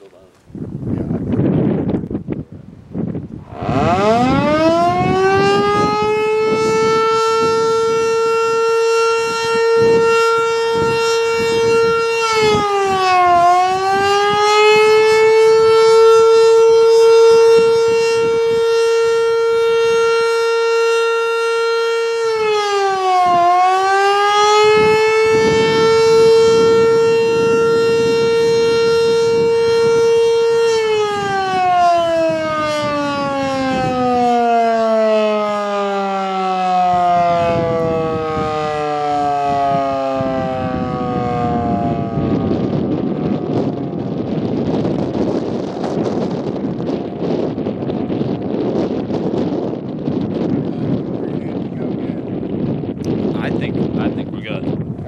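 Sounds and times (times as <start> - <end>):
wind buffeting microphone: 0.0 - 55.0
fire siren wailing: 3.0 - 55.0.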